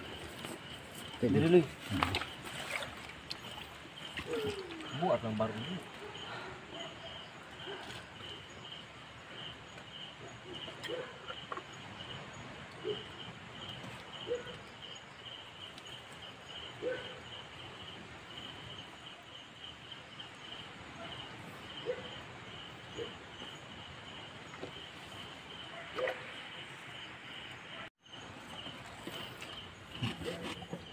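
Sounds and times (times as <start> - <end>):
night insects chirping: 0.0 - 30.9.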